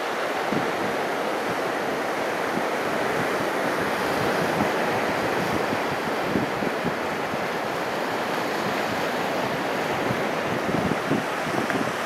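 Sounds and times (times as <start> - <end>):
ocean surf on rocky shore: 0.0 - 12.0
wind buffeting microphone: 0.4 - 12.0.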